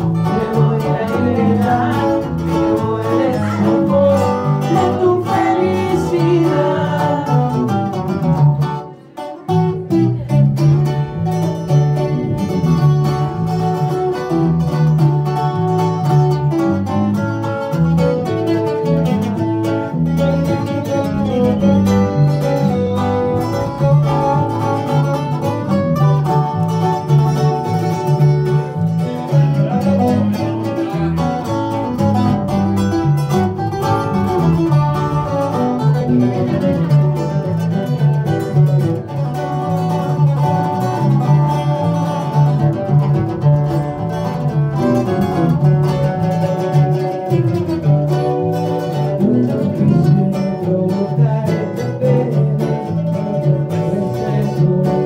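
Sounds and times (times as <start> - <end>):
acoustic guitar: 0.0 - 55.0
electric bass: 0.0 - 55.0
twelve-string guitar: 0.0 - 55.0.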